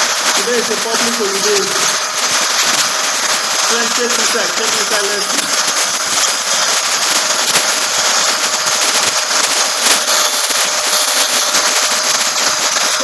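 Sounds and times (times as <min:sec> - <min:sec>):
grinding machine grinding: 0:00.0 - 0:13.0.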